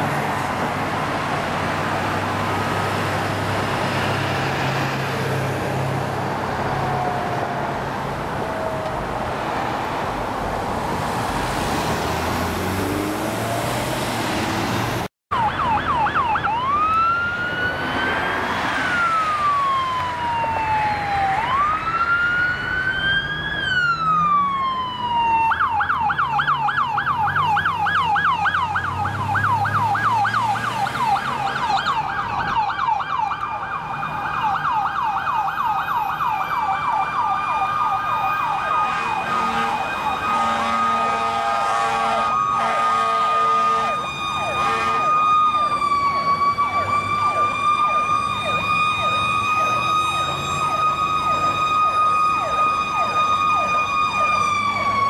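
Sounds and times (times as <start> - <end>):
fire engine siren: 0.0 - 55.0
road traffic: 0.0 - 55.0.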